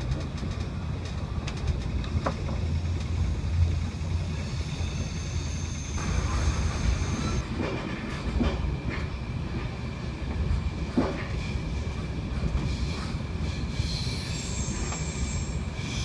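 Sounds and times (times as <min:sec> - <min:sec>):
train carriage rumbling: 0:00.0 - 0:16.0.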